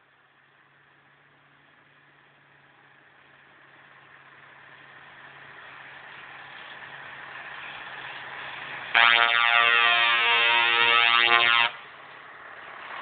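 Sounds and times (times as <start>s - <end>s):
truck engine approaching: 0.0s - 13.0s.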